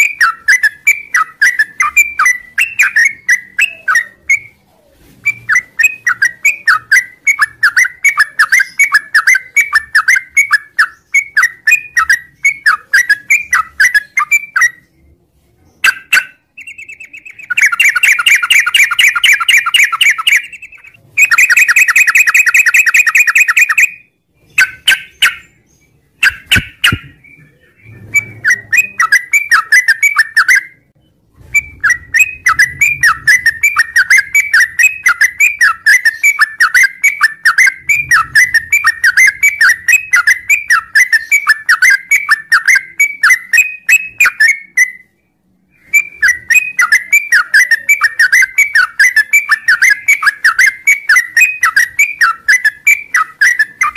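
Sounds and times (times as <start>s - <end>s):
bird chattering song: 0.0s - 4.6s, 5.2s - 15.0s, 15.7s - 30.9s, 31.6s - 45.2s, 45.8s - 53.9s.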